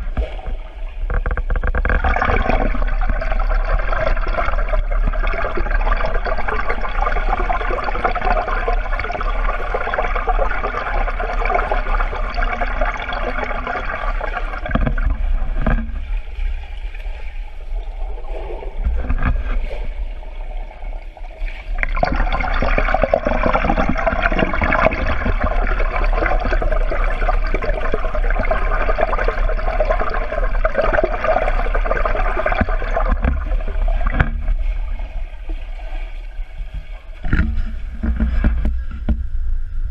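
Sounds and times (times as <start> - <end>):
underwater rushing and bubbling: 0.0 - 39.9.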